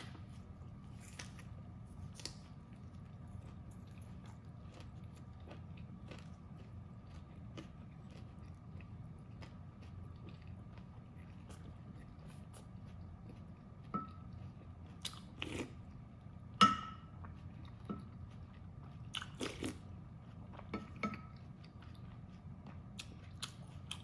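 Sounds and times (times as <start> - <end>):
faint high hum: 0.0 - 24.0
chewing with wet smacks: 2.0 - 16.0, 17.1 - 24.0.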